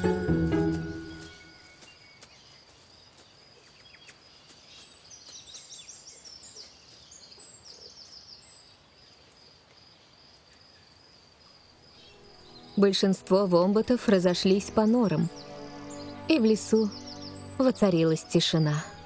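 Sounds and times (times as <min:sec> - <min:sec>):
small birds chirping: 0:01.0 - 0:19.0.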